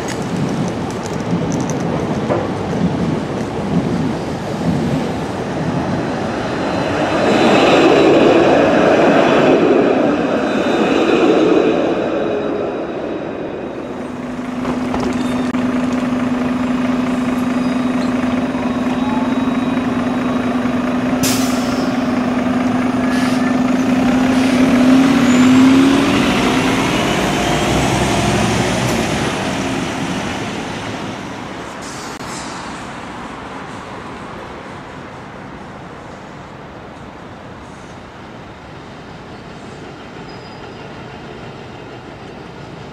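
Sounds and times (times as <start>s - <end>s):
tram passing on rails: 0.0s - 42.9s.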